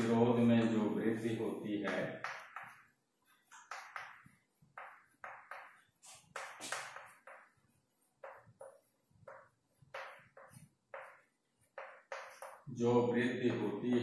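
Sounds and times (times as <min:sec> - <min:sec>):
chalk tapping and scratching on chalkboard: 0:00.0 - 0:14.0.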